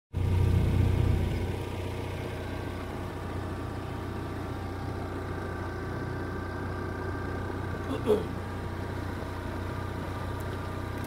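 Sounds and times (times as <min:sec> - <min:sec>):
boat engine humming: 0:00.1 - 0:11.0.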